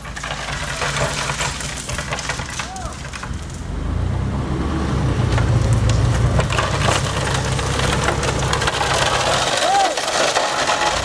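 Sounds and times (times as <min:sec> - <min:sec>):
cargo crunching and clattering: 0:00.0 - 0:03.7, 0:05.2 - 0:11.0
truck engine under load: 0:00.0 - 0:11.0.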